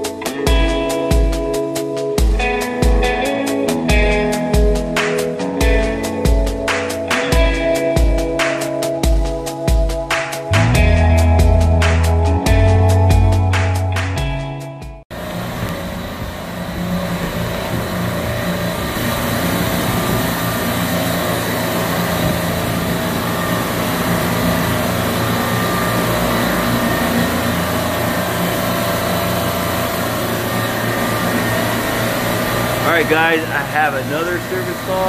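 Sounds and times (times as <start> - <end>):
refrigeration compressors droning: 0.0 - 13.8, 15.1 - 35.0.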